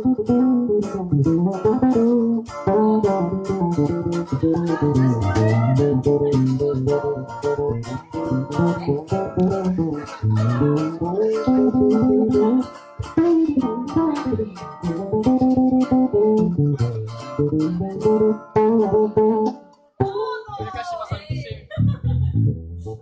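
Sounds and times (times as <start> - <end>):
electric bass playing: 0.0 - 23.0.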